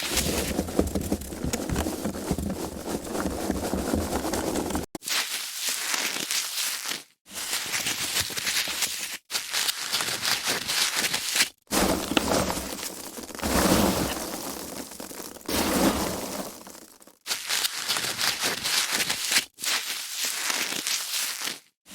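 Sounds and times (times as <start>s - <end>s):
foam packaging rustling: 0.0s - 7.0s, 9.3s - 21.7s.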